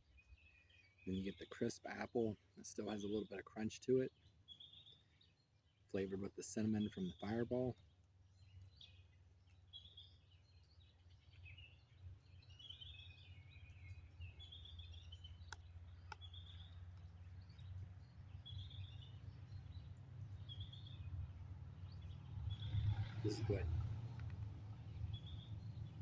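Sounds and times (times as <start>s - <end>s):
faint birdsong chirping: 0.0s - 26.0s.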